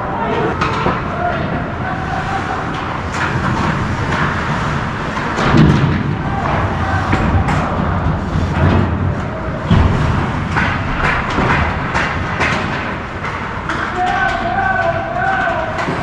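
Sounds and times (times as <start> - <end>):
rink rumble: 0.0 - 16.0
hockey sticks and puck clacking: 0.3 - 16.0.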